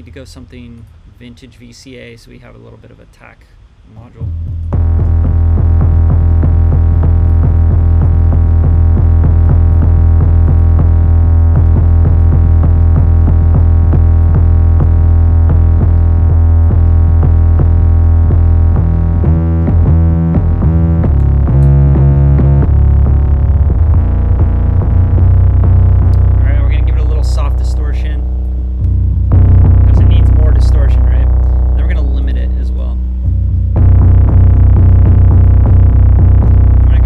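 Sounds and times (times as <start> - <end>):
distorted bass: 4.0 - 37.0
drum machine hits: 4.1 - 37.0.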